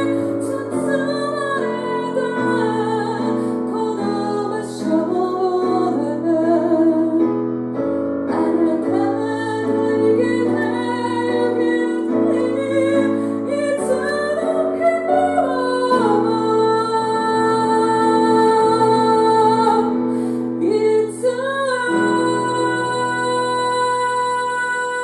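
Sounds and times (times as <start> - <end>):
woman singing: 0.0 - 7.4, 8.2 - 25.0
piano chords: 0.0 - 25.0.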